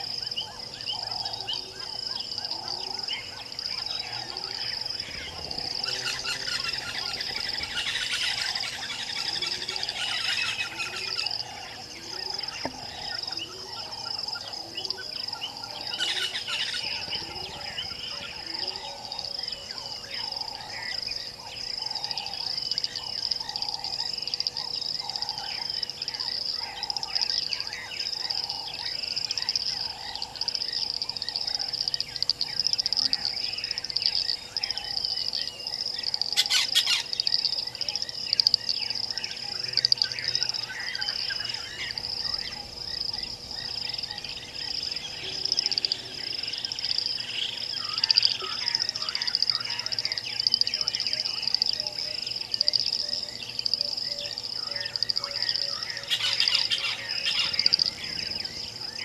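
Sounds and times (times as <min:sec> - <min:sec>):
low repeating animal call: 0:00.0 - 0:21.1, 0:21.8 - 0:59.0
birds chirping and calling: 0:00.0 - 0:59.0
high insect trill: 0:00.0 - 0:59.0.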